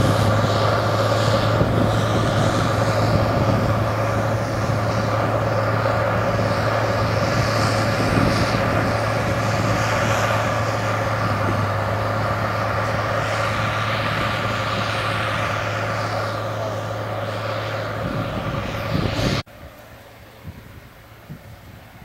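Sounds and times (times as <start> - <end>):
diesel tractor engine under load: 0.0 - 22.0
faint wind: 0.0 - 22.0.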